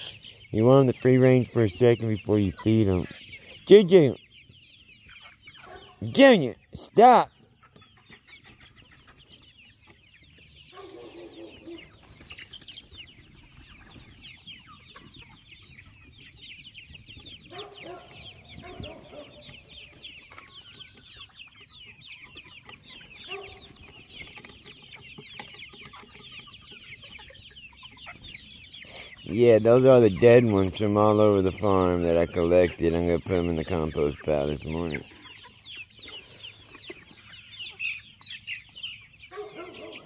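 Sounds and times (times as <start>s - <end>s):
chickens clucking: 0.0s - 40.0s
chicks peeping: 0.0s - 40.0s.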